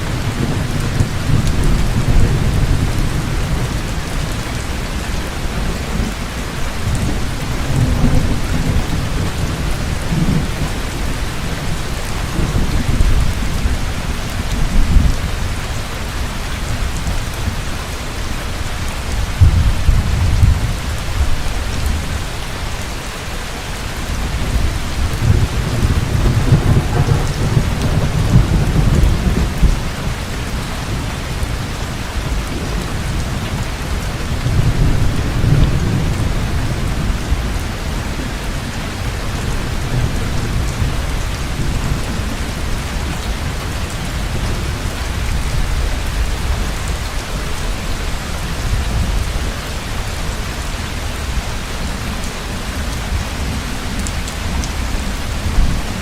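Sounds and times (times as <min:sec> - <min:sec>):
low rolling thunder: 0:00.0 - 0:16.2, 0:19.1 - 0:22.7, 0:24.0 - 0:50.3
heavy rain falling: 0:00.0 - 0:56.0.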